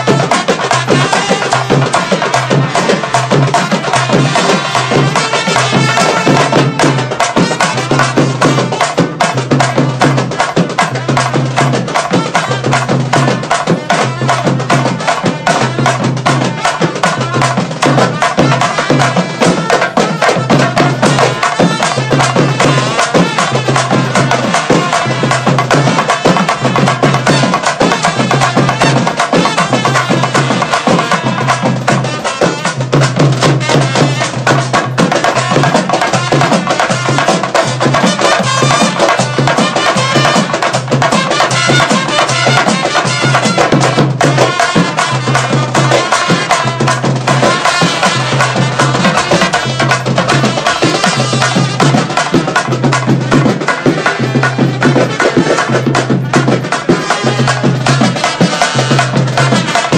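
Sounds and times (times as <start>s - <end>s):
percussive beat: 0.0s - 59.9s.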